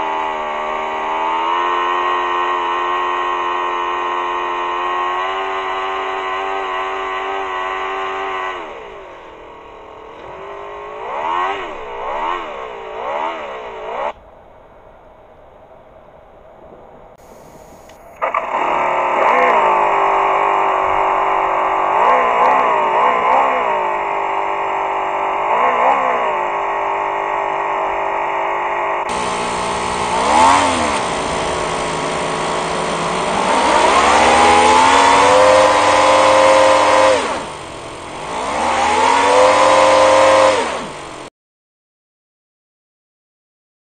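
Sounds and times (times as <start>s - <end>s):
model engine revving: 0.0s - 14.2s, 17.2s - 41.3s.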